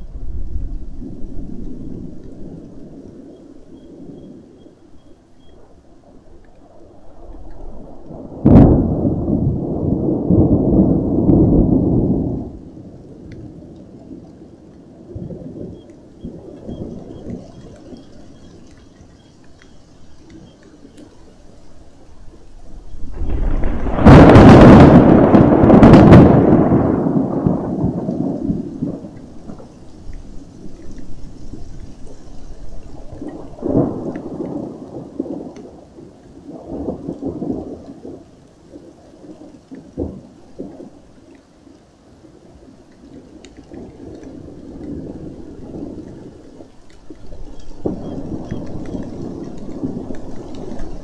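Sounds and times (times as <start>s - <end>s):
thunder cracks and rumble: 0.0s - 5.8s, 6.4s - 41.2s, 42.9s - 51.0s
distant rolls of thunder: 0.0s - 41.7s, 42.4s - 51.0s.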